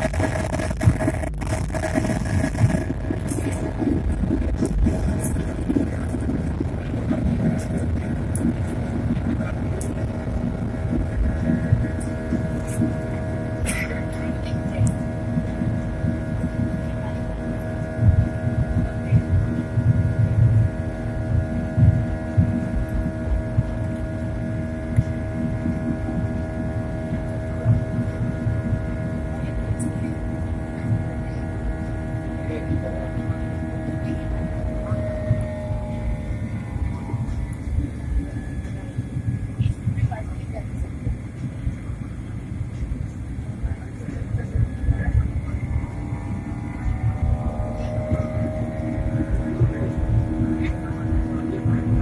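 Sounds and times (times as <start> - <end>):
jet engines rumbling: 0.0 - 52.0.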